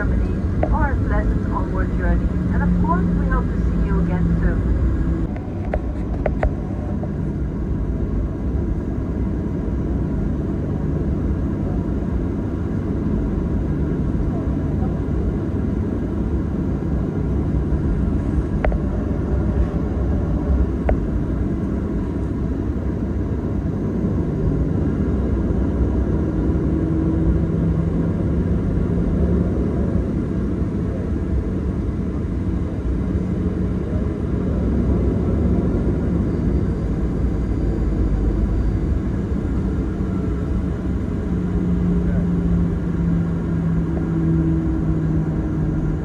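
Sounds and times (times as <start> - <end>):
aircraft engines rumbling: 0.0 - 46.0.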